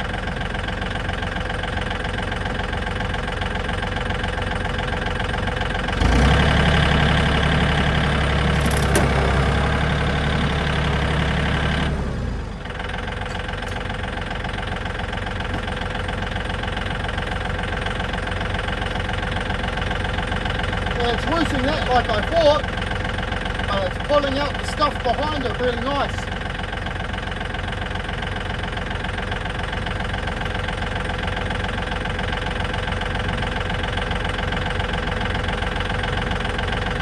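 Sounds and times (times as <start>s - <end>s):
tractor engine revving: 4.7s - 37.0s.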